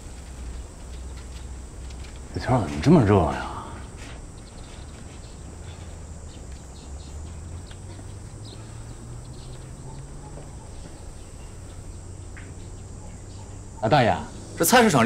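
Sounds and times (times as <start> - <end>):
faint bird chirps: 0.0 - 15.0
high insect drone: 0.0 - 15.0
low steady hum: 0.0 - 15.0.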